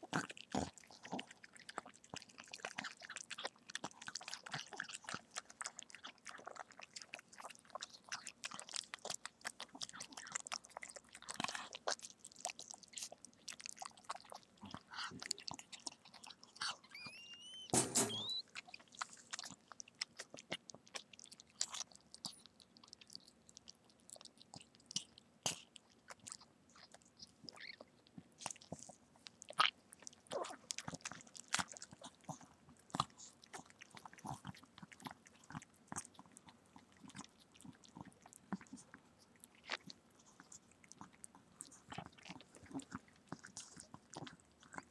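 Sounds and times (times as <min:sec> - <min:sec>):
dog licking and chewing: 0:00.0 - 0:44.9.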